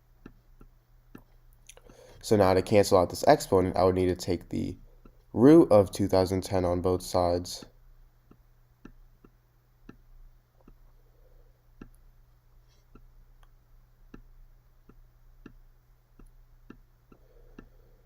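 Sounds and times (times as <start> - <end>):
faint steady low hum: 0.0 - 18.0.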